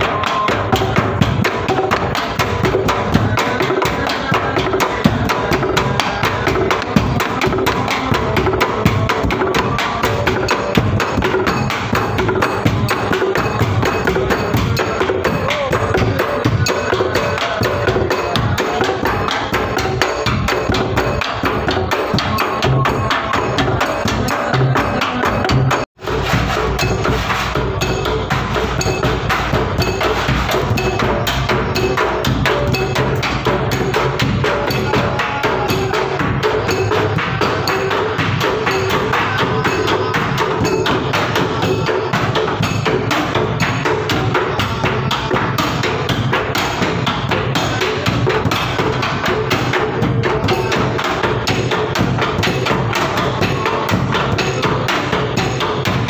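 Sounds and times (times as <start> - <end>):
large drum beaten fast: 0.0 - 56.0.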